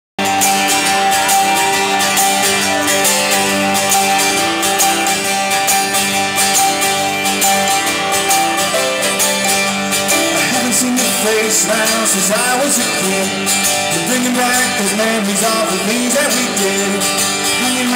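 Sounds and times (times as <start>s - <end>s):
live band music: 0.2s - 17.9s
strummed guitar: 0.2s - 17.9s.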